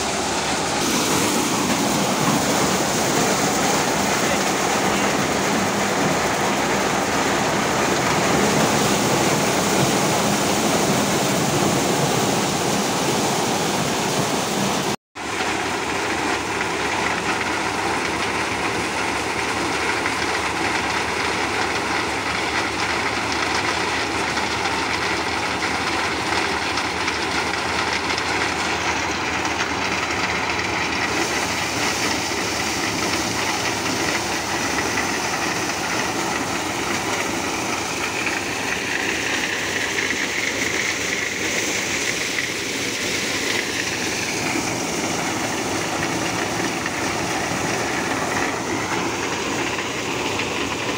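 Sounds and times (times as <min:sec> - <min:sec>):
dehusking machine running: 0:00.0 - 0:50.9
kernels pouring from chute: 0:00.2 - 0:12.1, 0:15.2 - 0:50.9.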